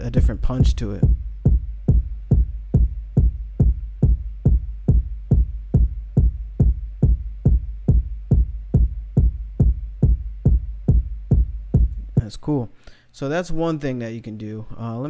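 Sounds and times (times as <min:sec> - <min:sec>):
electronic kick drum thumps: 0:00.0 - 0:12.4.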